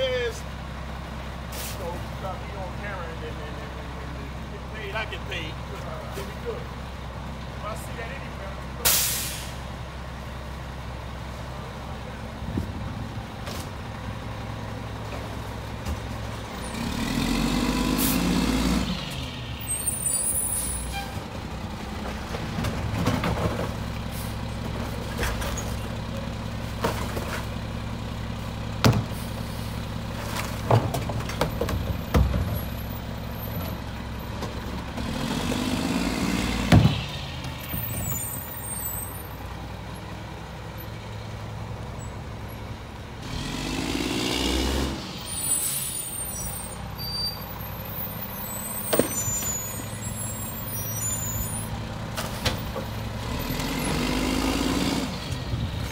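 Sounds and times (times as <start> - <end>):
diesel engine idling and revving: 0.0 - 55.9.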